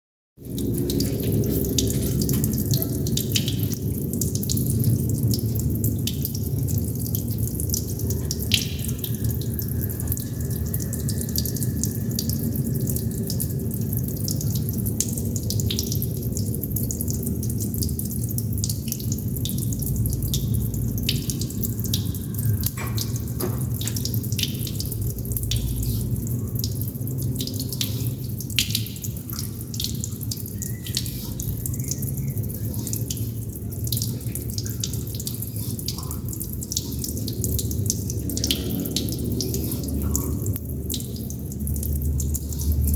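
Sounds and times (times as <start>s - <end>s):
steady low water noise: 0.4s - 42.9s
water droplets dripping: 0.4s - 42.9s.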